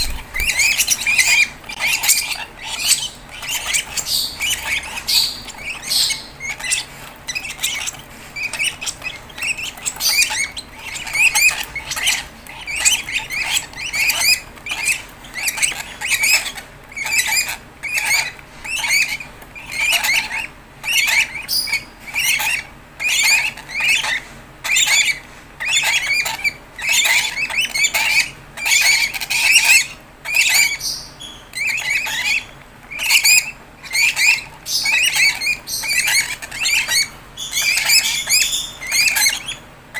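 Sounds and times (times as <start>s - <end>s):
bird chicks begging squawks: 0.0s - 39.9s.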